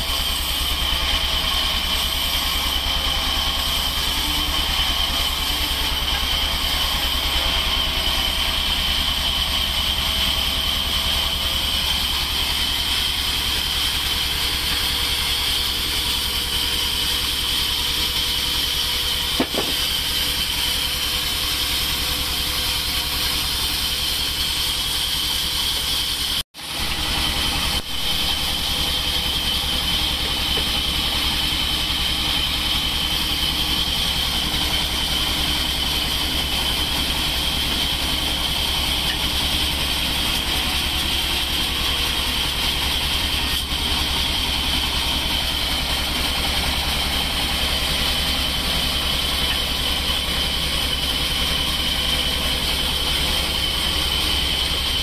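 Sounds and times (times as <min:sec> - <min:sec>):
band saw whining: 0:00.0 - 0:55.0.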